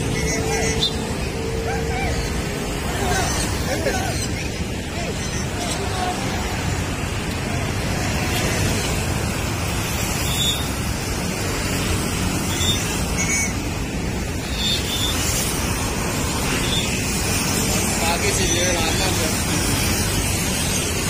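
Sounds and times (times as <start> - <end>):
traffic: 0.0 - 21.0.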